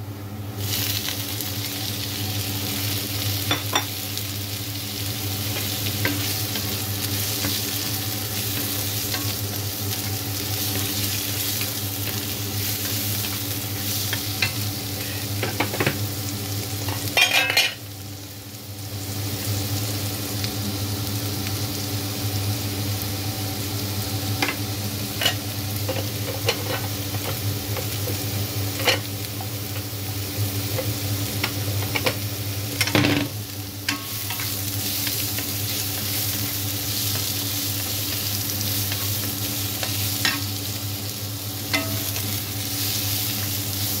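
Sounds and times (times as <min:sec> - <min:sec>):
vegetables sizzling in a pan: 0:00.0 - 0:44.0.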